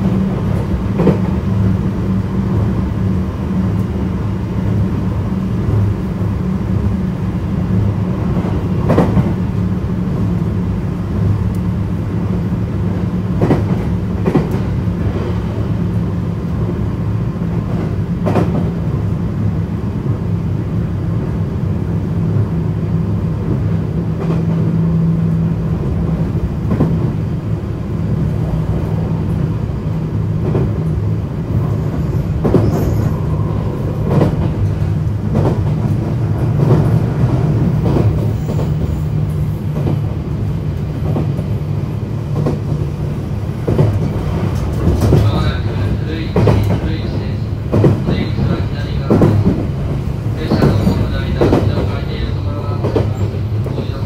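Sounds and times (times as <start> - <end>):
electric train hum and rumble: 0.0 - 54.0.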